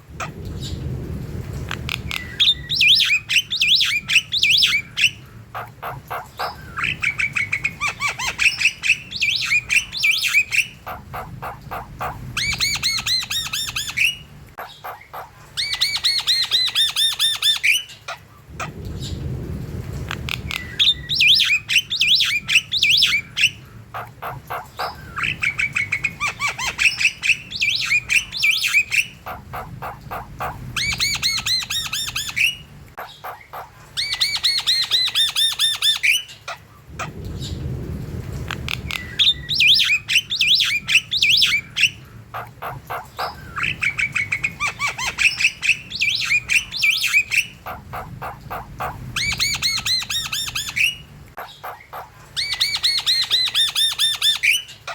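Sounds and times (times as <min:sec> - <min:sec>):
myna bird chattering song: 0:01.8 - 0:18.2, 0:20.4 - 0:37.1, 0:38.7 - 0:54.9.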